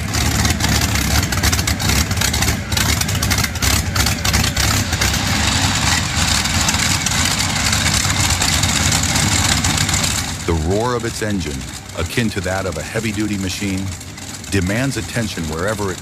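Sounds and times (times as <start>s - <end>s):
large vehicle engine rumbling: 0.0s - 16.0s.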